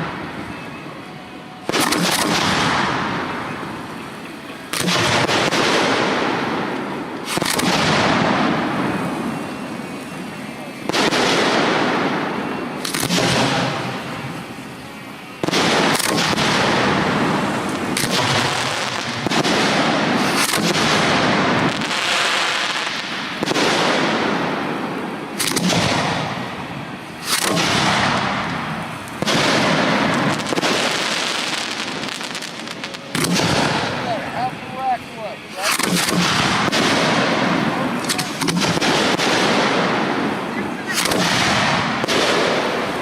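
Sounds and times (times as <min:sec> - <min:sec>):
rushing firework tail: 0:00.0 - 0:43.0
firework shells bursting: 0:01.6 - 0:43.0.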